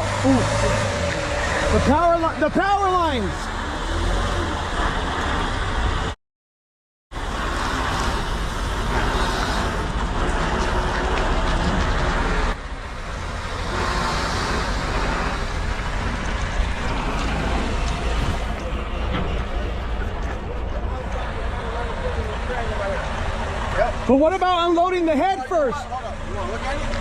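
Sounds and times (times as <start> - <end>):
truck diesel engine rumbling: 0.0 - 6.2, 7.2 - 27.0.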